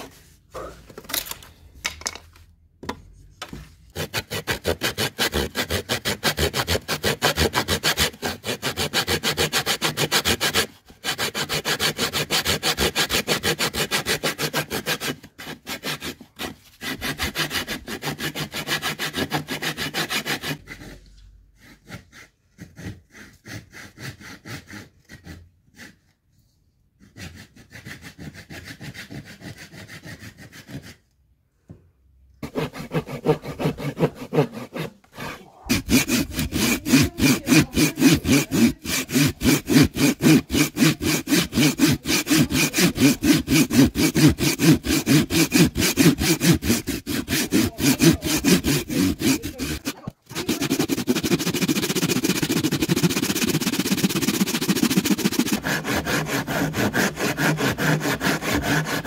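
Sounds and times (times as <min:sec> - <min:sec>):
hand saw cutting wood: 0:03.4 - 0:26.2, 0:27.0 - 0:31.0, 0:32.4 - 0:59.0.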